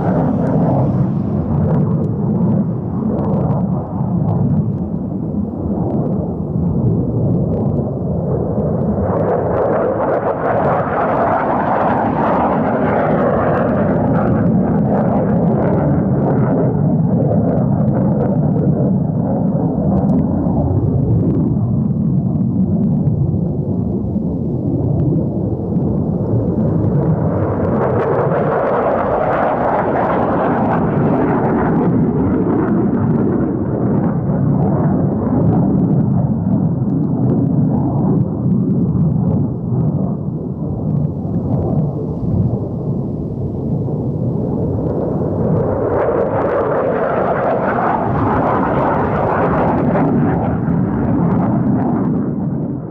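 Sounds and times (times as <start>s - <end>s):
jet flying past: 0.0s - 21.8s, 23.9s - 52.9s.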